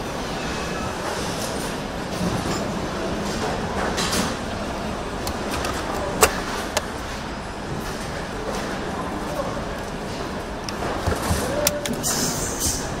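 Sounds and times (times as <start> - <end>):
factory noise: 0.0 - 13.0.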